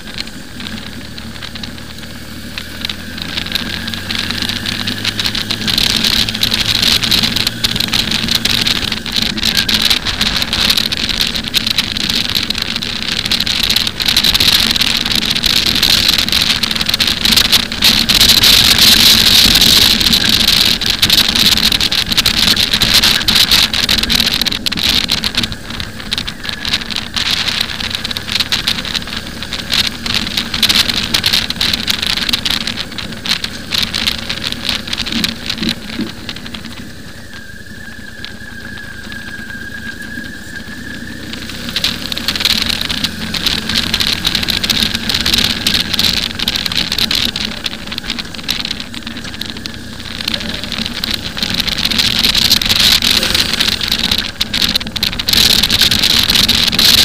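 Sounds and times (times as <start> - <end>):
motorcycle engine humming: 0.0 - 57.0
wind buffeting microphone: 0.0 - 57.0.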